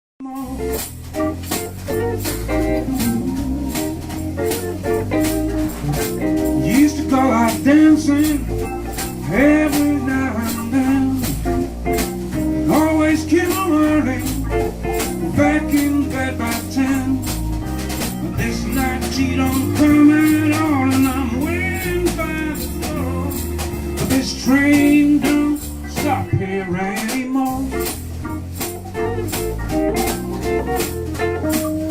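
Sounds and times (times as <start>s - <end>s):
bass: 0.2s - 31.9s
electric guitar lines: 0.2s - 31.9s
organ: 0.2s - 31.9s
steady drum beat: 0.4s - 31.9s.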